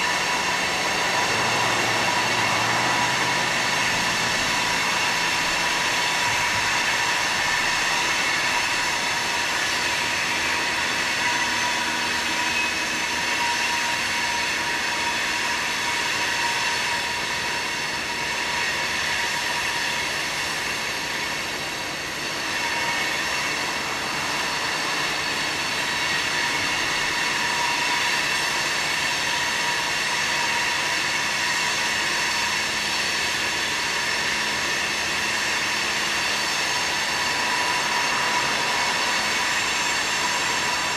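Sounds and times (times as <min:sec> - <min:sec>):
train wheels squealing: 0:00.0 - 0:40.9.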